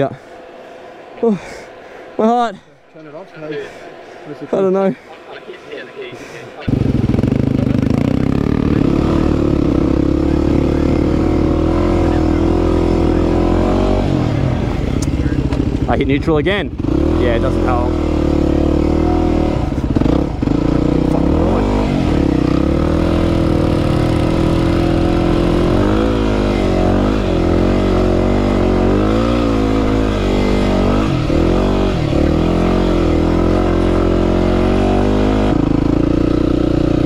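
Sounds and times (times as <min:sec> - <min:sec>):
motorcycle engine revving: 0:02.8 - 0:37.0.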